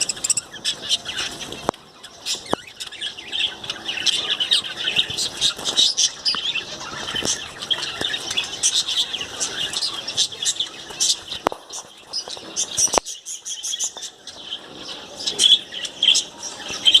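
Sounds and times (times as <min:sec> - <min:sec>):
parrots chirping: 0:00.0 - 0:17.0.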